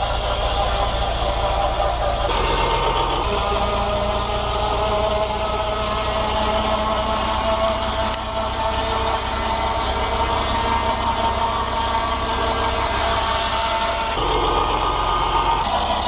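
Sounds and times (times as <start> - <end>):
circular saw whine: 0.0 - 16.0
diesel engine rumble: 0.0 - 16.0.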